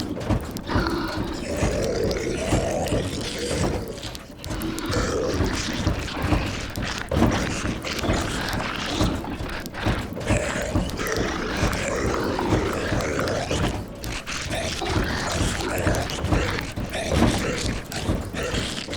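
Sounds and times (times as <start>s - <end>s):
rain on a roof: 0.0s - 18.9s
zombie moans and growls: 0.0s - 18.9s.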